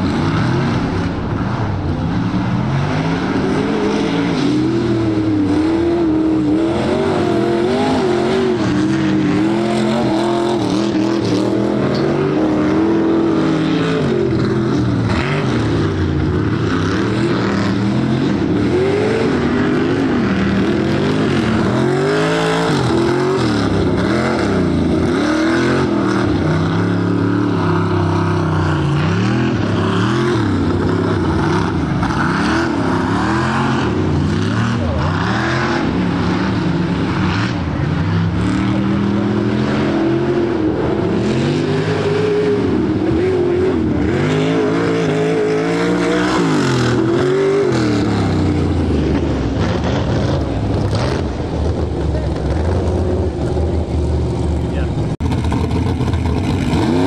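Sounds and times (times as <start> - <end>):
truck engine revving: 0.0 - 57.0.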